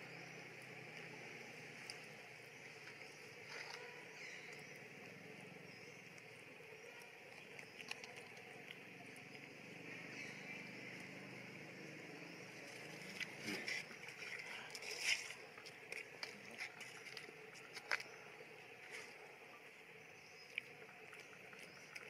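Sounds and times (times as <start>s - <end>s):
faint insect drone: 0.0s - 22.0s.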